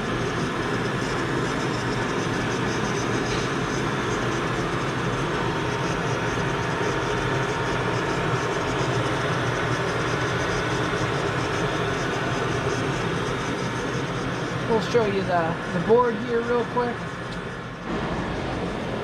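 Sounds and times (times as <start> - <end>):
machine fans and drives: 0.0 - 19.0.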